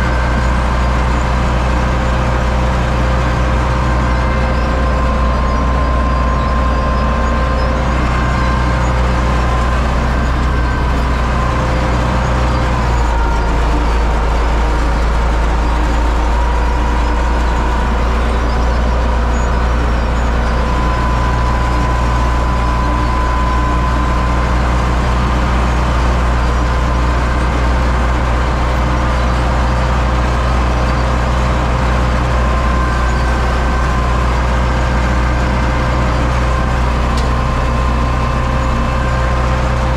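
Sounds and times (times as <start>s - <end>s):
diesel tractor engine under load: 0.0s - 39.9s
steady high whine: 0.0s - 39.9s.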